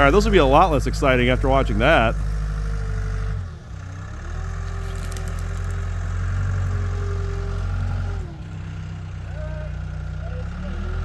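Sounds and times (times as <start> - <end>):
skid steer diesel engine running: 0.0 - 11.0.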